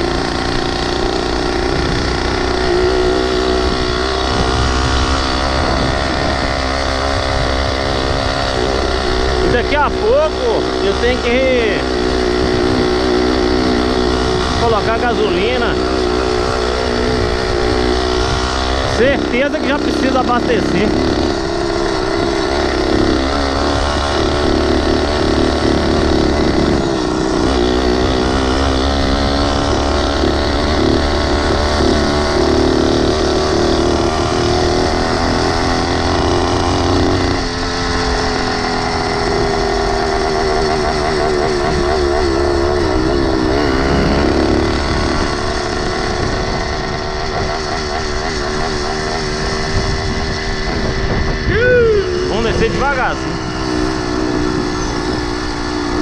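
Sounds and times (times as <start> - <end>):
small gasoline engine running: 0.0 - 56.0.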